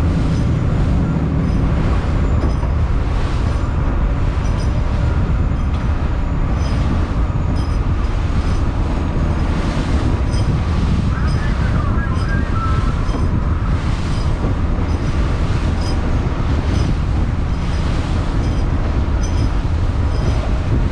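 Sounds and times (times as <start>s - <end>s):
boat engine rumbling: 0.0s - 20.9s
water noise: 0.0s - 20.9s.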